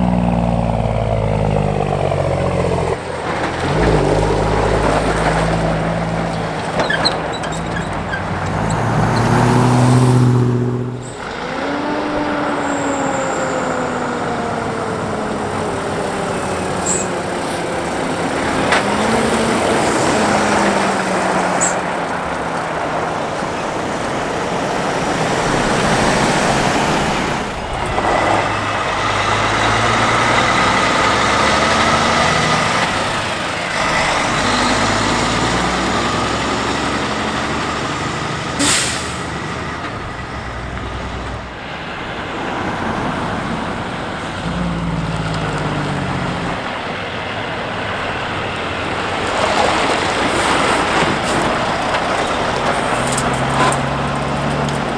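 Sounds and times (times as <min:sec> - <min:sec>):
diesel trucks driving by: 0:00.0 - 0:54.9.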